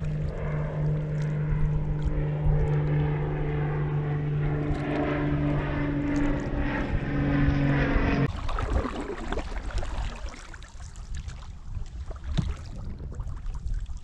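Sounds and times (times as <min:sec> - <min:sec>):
propeller airplane engine droning: 0:00.0 - 0:12.2.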